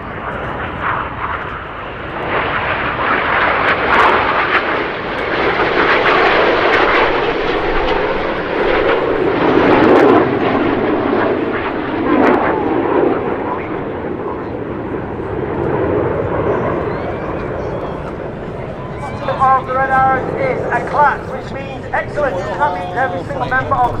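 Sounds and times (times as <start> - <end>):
jets flying past: 0.0 - 24.0.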